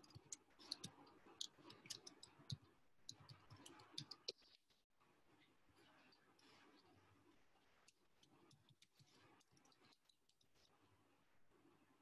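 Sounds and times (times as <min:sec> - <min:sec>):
faint keyboard typing: 0:00.0 - 0:04.8, 0:05.8 - 0:10.9.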